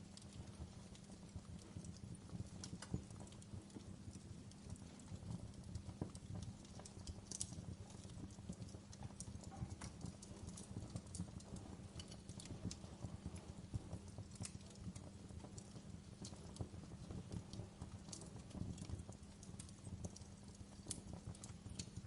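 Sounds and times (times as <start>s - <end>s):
fire crackling and popping: 0.0s - 22.0s
low rumble of fire: 0.0s - 22.0s.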